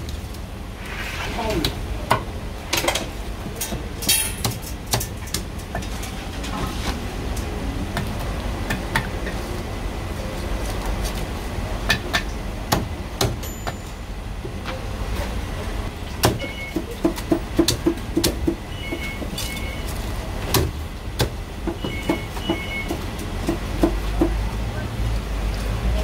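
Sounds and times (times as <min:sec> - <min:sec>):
background traffic: 0:00.0 - 0:26.0.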